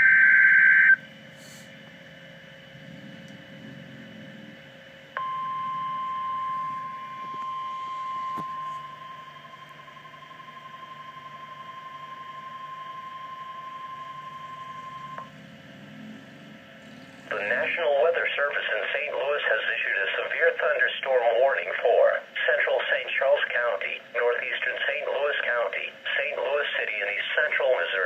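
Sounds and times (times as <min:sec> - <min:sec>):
steady high-pitched alarm tone: 0:00.0 - 0:01.1, 0:05.0 - 0:28.0.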